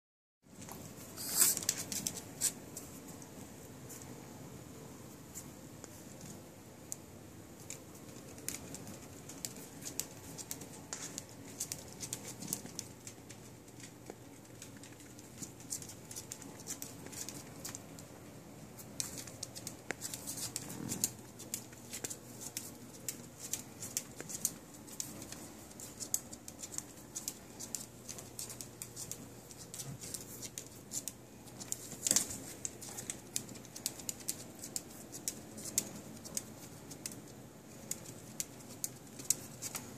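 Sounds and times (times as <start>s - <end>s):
puppy claws clicking on floor: 0.6s - 4.2s, 5.8s - 39.9s.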